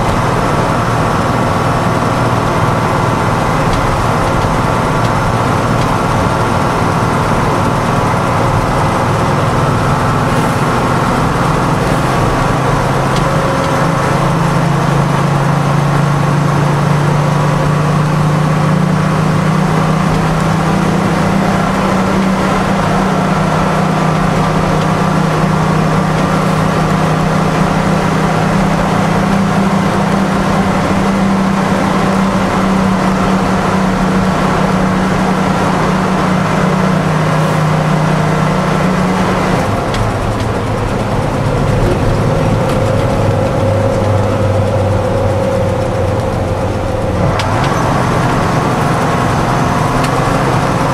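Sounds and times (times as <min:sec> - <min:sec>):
diesel engine pulling heard from cab: 0:00.0 - 0:50.9.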